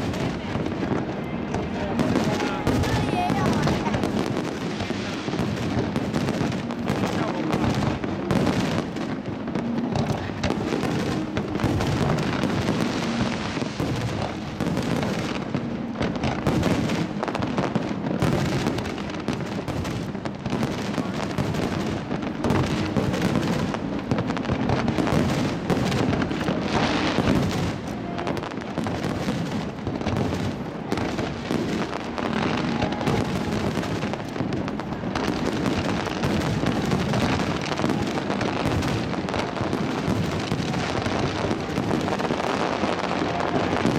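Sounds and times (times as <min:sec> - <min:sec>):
fireworks crackle: 0:00.0 - 0:43.9.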